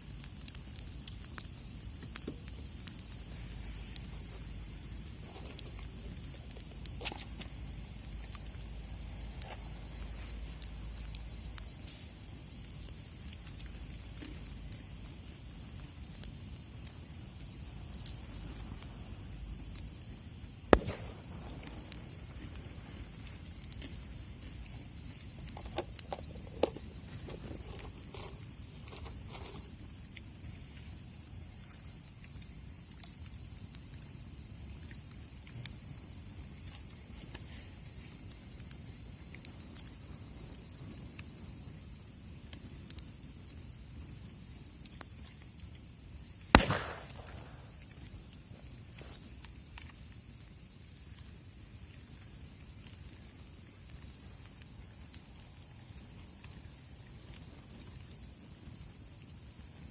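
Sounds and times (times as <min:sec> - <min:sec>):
campfire crackling: 0:00.0 - 0:59.9
crickets chirping: 0:00.0 - 0:59.9
insects chorus: 0:00.0 - 0:59.9.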